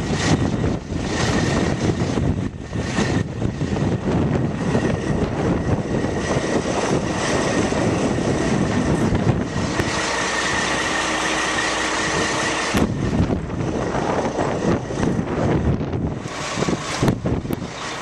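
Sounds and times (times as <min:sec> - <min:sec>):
diesel truck engine running: 0:00.0 - 0:18.0
steady whine: 0:00.0 - 0:18.0.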